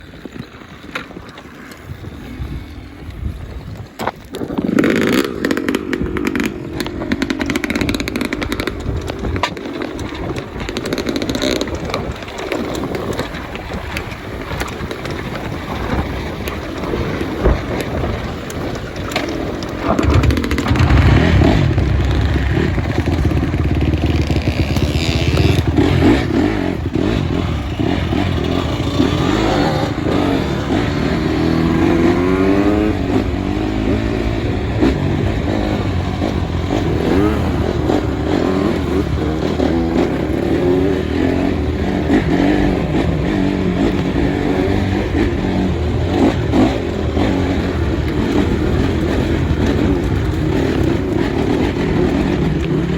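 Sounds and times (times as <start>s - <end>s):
motorcycle engine revving: 4.5s - 52.9s.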